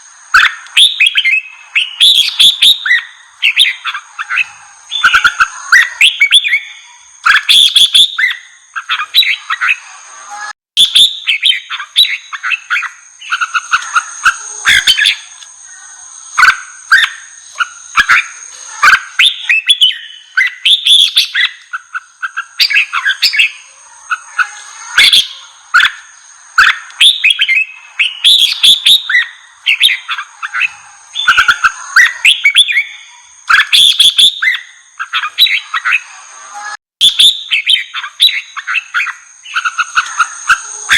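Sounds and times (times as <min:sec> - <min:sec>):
bulbuls singing: 0:00.0 - 0:40.9.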